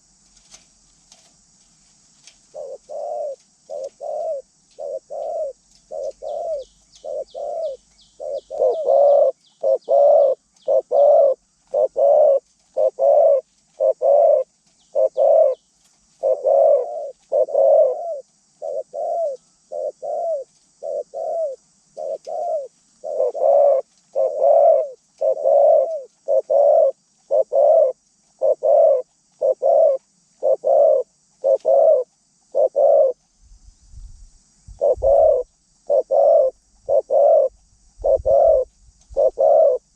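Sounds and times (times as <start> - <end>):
small bird chirping: 2.2 - 39.9
dove cooing: 2.4 - 33.2, 34.7 - 39.9.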